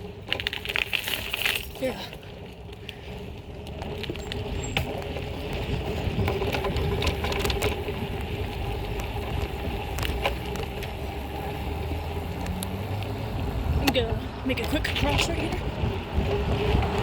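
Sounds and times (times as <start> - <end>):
bike clicks and rattles: 0.0 - 17.0
bike tyres rumbling on pavement: 0.0 - 17.0.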